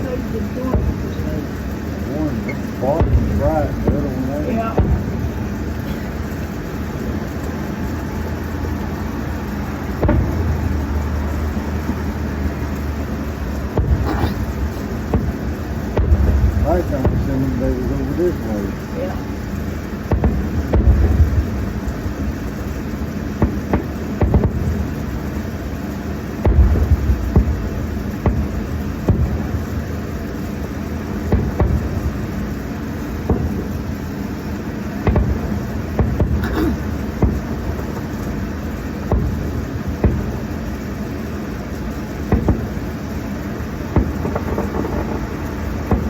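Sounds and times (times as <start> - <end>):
firework low boom: 0.0 - 46.0
steady low rumble: 0.0 - 46.0
firework pops: 0.6 - 1.4, 2.3 - 9.2, 9.8 - 46.0.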